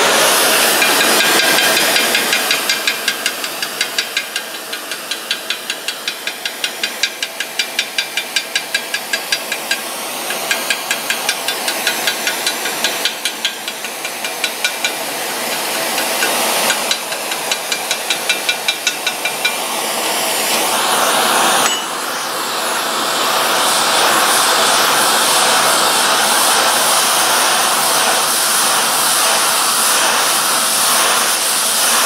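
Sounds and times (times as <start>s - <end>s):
gas torch flame hissing: 0.0s - 32.0s.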